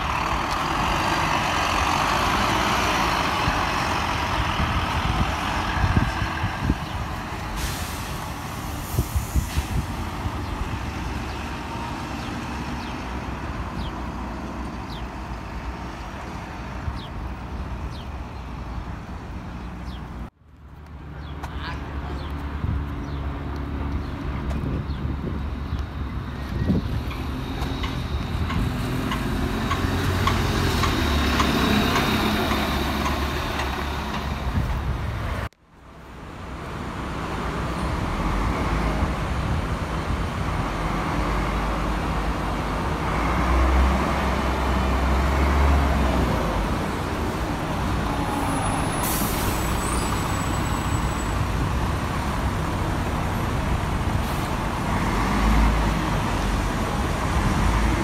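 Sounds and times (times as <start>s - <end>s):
bus engine pulling away: 0.0s - 58.0s.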